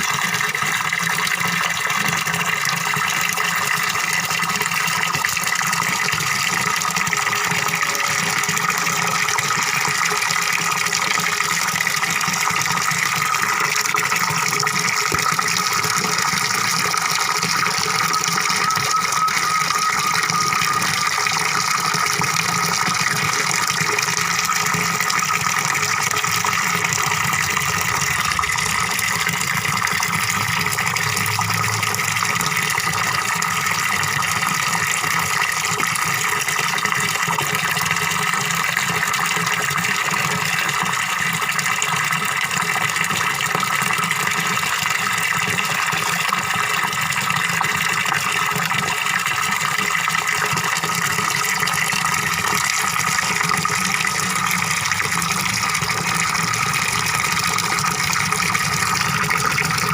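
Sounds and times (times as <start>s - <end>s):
waterfall splashing into pond: 0.0s - 59.9s.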